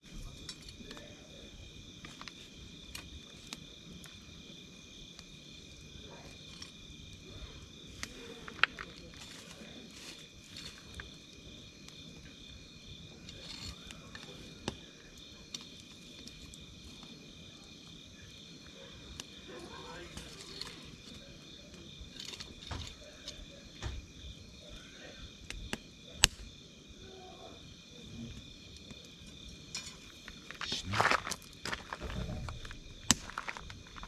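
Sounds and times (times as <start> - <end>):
campfire crackling and popping: 0.0 - 27.0, 28.3 - 34.0
night insects chirping: 0.0 - 34.0.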